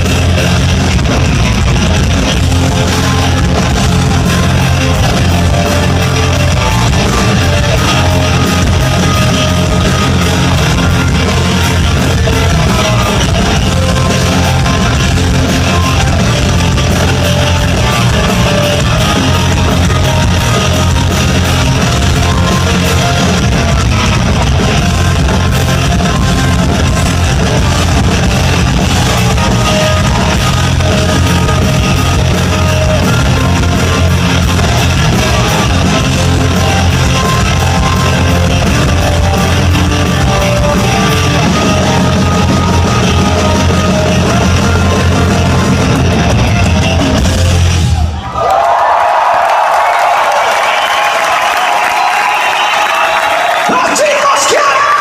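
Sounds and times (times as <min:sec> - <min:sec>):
rock band playing live: 0:00.0 - 0:48.4.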